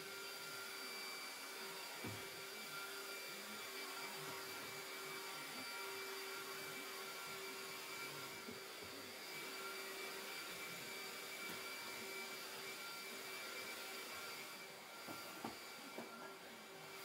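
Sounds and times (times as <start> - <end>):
handheld vacuum cleaner running: 0.0 - 17.0.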